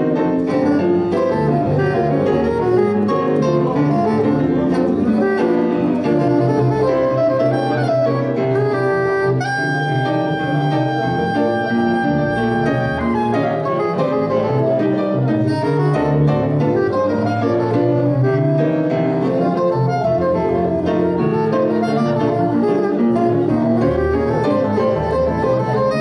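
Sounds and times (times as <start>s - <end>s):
soprano saxophone: 0.3s - 26.0s.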